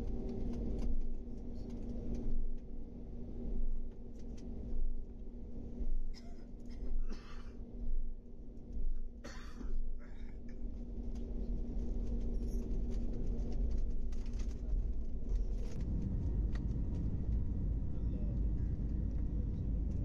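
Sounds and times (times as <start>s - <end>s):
airliner engine hum: 0.0s - 20.0s
low runway rumble: 0.0s - 20.0s.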